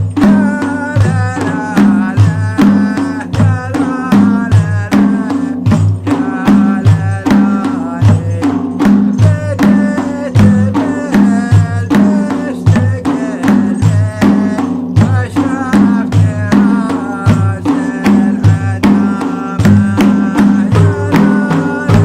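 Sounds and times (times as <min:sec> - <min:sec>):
drums striking steady rhythm: 0:00.0 - 0:22.0.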